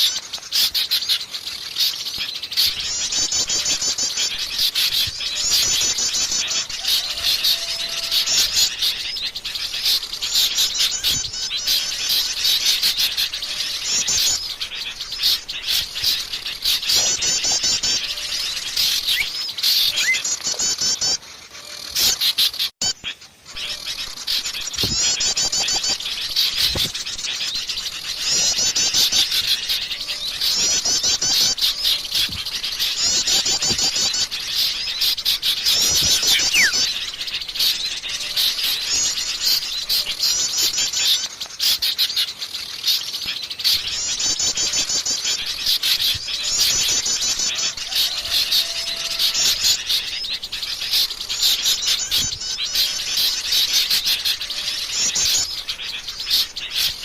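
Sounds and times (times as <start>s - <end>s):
birds chattering: 0.0s - 57.0s.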